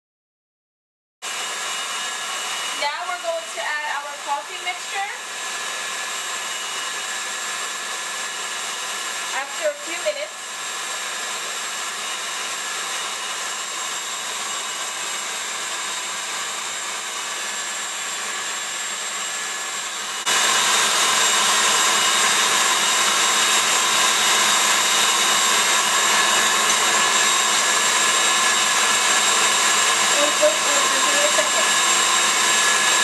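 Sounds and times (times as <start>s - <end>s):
stand mixer motor whine: 1.2s - 33.0s
whisk churning in steel bowl: 1.3s - 9.6s, 10.4s - 33.0s.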